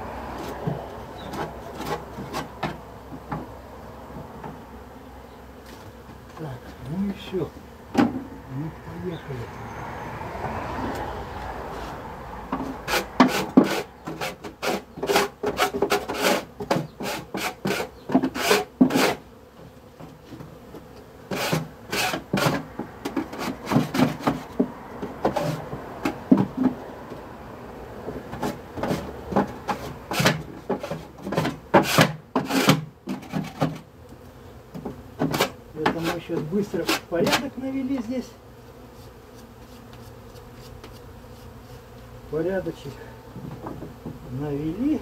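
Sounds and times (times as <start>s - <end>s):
hive tool scraping wood: 0.3s - 3.5s, 5.5s - 8.3s, 10.9s - 27.3s, 28.0s - 45.0s.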